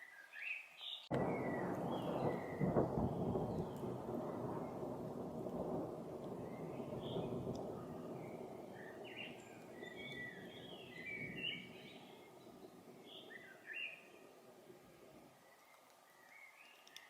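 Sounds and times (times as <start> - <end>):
songbird chirping: 0.0 - 17.0
low rumble of thunder: 1.1 - 15.3.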